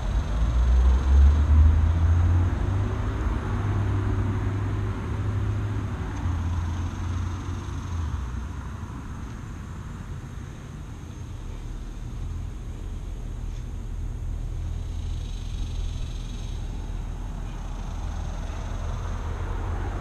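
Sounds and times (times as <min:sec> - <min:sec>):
faint engine hum: 0:00.0 - 0:20.0
passing motor vehicle rumble: 0:00.0 - 0:20.0.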